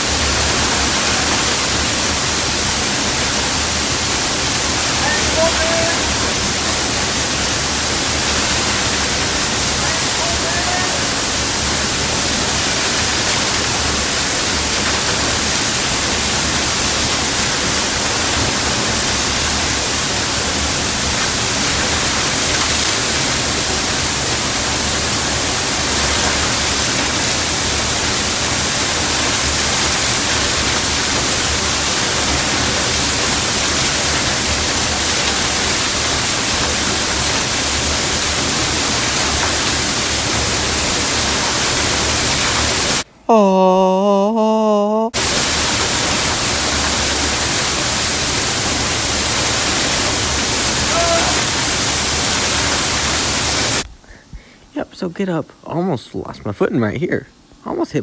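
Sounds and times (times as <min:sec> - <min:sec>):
waterfall rushing: 0:00.0 - 0:43.1, 0:45.2 - 0:53.9.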